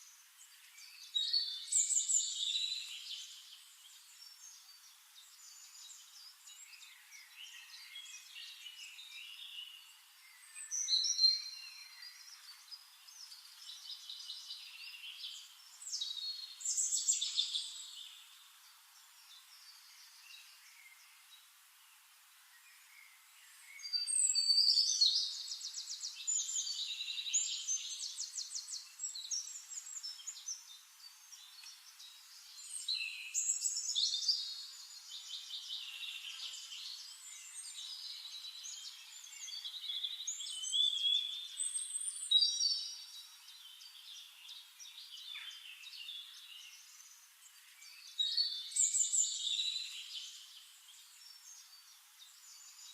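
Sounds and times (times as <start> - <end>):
birds chirping and trilling: 0.0 - 52.9
quiet bird twittering: 0.0 - 52.9.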